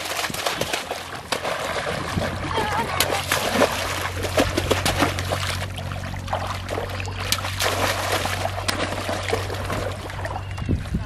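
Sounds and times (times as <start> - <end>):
steady low hum: 0.0 - 11.0
water splashing: 0.0 - 11.0.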